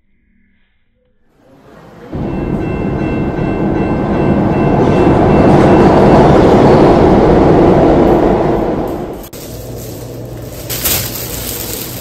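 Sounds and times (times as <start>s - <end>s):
subway train rumble: 1.3s - 12.0s
rail clatter: 2.2s - 12.0s.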